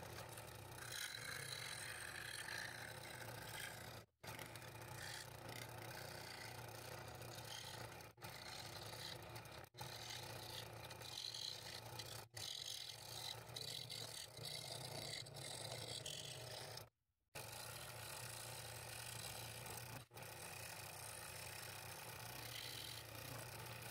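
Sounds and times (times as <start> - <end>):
scroll saw cutting wood: 0.0 - 23.9.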